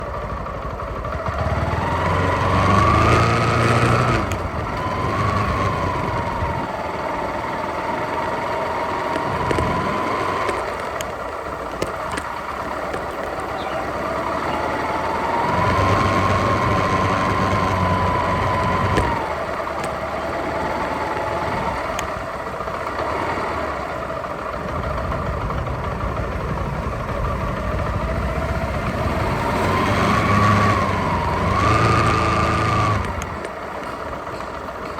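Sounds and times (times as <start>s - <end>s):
motorcycle engine revving: 0.0s - 34.9s
wind and road noise: 0.0s - 34.9s.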